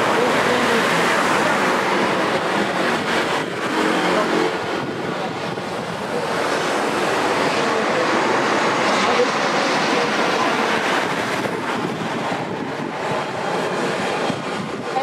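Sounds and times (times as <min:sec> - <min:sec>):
jet engines in reverse thrust: 0:00.0 - 0:15.0.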